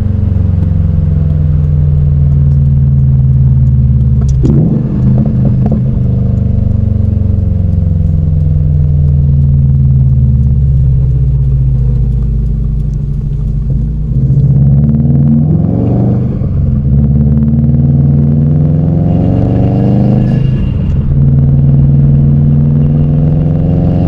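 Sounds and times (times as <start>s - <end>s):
car engine and exhaust running: 0.0s - 24.0s.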